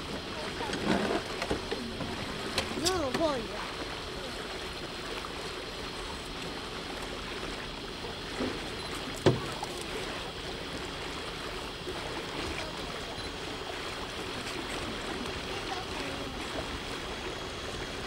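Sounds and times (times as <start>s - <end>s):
water washing along boat hull: 0.0s - 18.0s.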